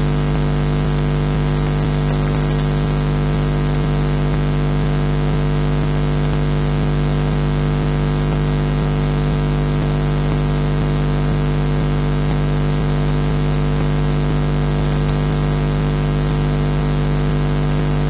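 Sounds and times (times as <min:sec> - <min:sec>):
electrical hum and hiss: 0:00.0 - 0:18.0
faint crackles: 0:00.0 - 0:18.0.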